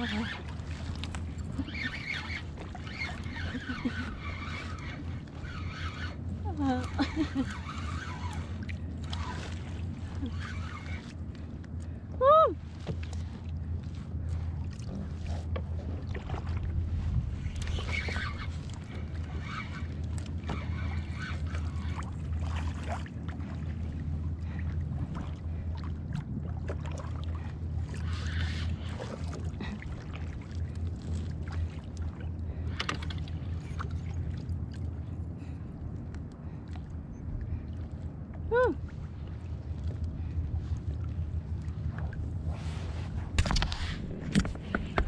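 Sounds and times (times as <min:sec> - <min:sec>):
water sloshing against kayak hull: 0:00.0 - 0:45.0
wind rumble on microphone: 0:00.0 - 0:45.0.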